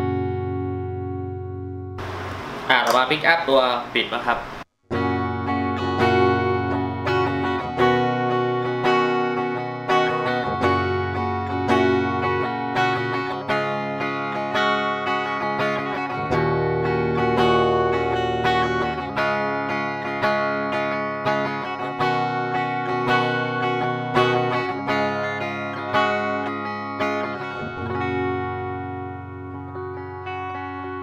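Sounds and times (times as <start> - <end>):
clean electric guitar chords: 0.0 - 3.0, 4.9 - 31.0.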